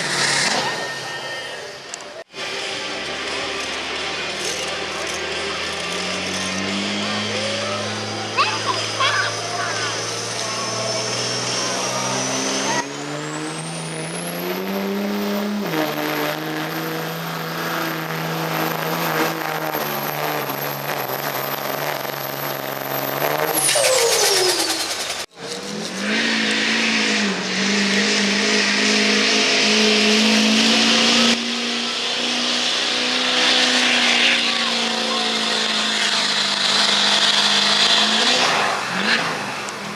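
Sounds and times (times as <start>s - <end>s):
turbocharger whistle: 0.0s - 2.0s, 5.8s - 16.2s, 17.1s - 39.4s
diesel engine under full load: 0.0s - 39.9s.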